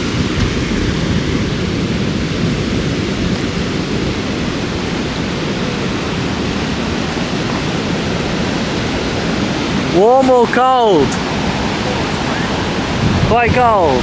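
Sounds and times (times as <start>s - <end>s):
wind buffeting the microphone: 0.0s - 10.0s, 11.2s - 14.0s
sea surf breaking on a beach: 0.0s - 14.0s.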